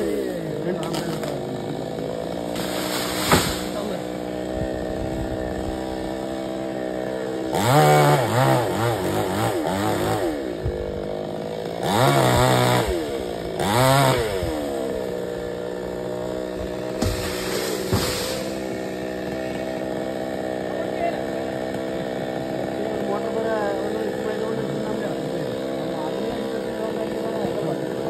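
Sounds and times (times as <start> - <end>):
chainsaw idling and revving: 0.0 - 28.0.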